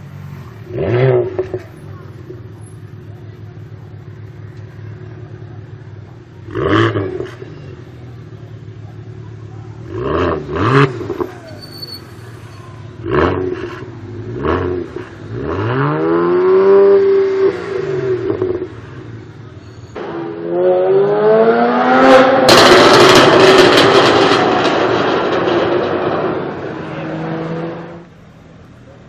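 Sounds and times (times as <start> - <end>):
car engine idling: 0.0 - 21.4, 22.4 - 29.0
car engine revving: 0.0 - 28.9.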